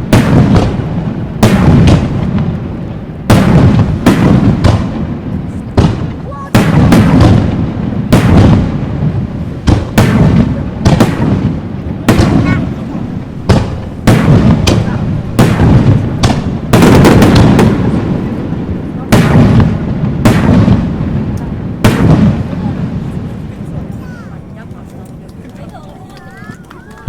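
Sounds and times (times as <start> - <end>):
low rumbling echo: 0.0 - 26.3
fireworks bangs: 0.0 - 27.0.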